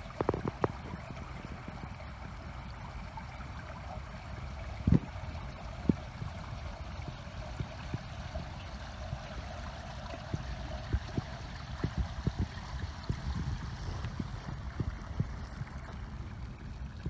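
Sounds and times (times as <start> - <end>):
wind on microphone: 0.0 - 2.0, 4.7 - 17.0
low rumble: 0.0 - 17.0.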